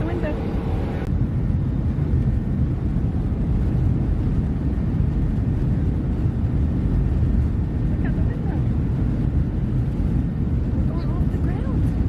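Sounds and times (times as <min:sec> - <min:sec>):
jet engines roaring at takeoff: 0:00.0 - 0:12.0
runway rumble: 0:00.0 - 0:12.0.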